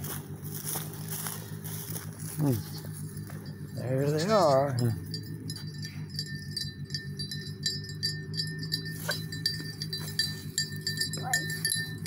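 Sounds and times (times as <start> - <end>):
wind chimes tinkling: 1.0 - 12.0.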